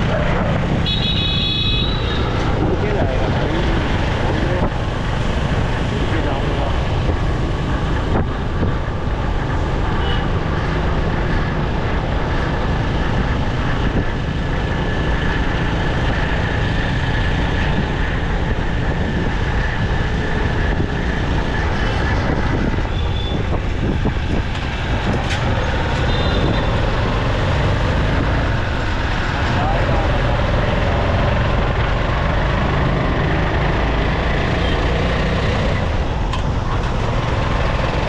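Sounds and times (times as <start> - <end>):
traffic noise: 0.0 - 38.0
wind rush on microphone: 2.2 - 34.0.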